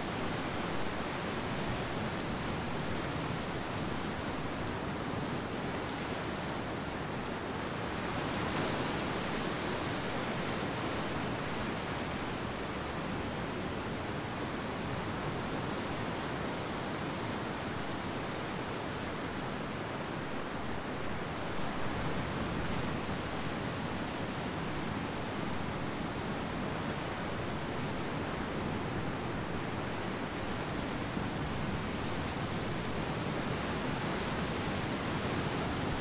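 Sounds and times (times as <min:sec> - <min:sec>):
ocean surf washing on beach: 0:00.0 - 0:36.0.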